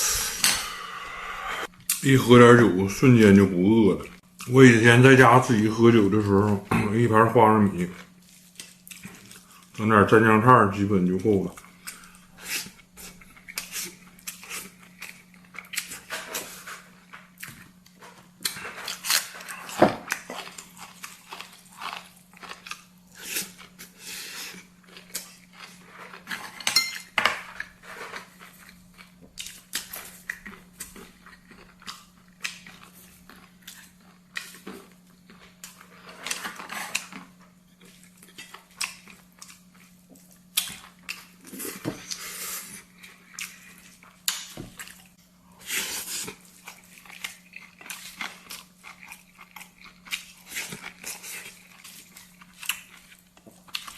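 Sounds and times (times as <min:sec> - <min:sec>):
low steady hum: 0:00.0 - 0:53.9
chewing and crunching: 0:07.6 - 0:09.9, 0:10.7 - 0:53.9.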